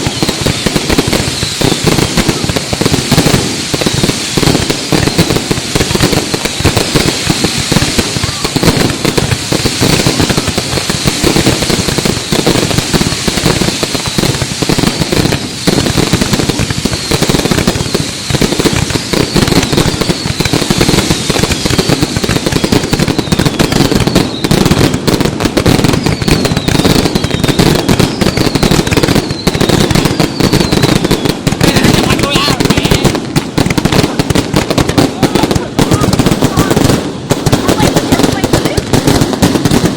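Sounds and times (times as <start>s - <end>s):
high falling firework whistles: 0.0s - 33.1s
fireworks crackling: 0.0s - 39.9s.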